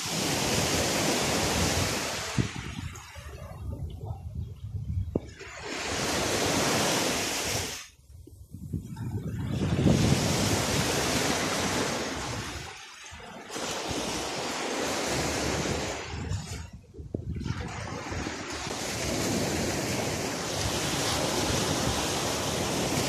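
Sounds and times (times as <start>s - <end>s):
waves washing up shore: 0.0s - 4.4s, 5.0s - 23.0s.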